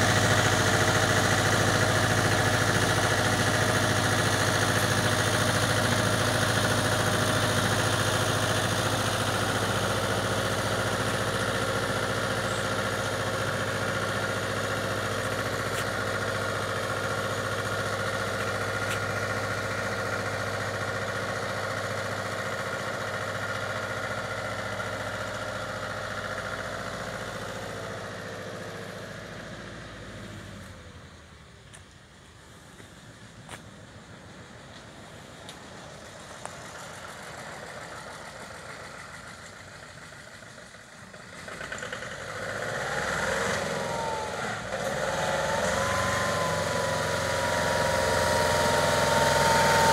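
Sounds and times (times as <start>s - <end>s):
diesel truck engine driving away: 0.0s - 49.9s.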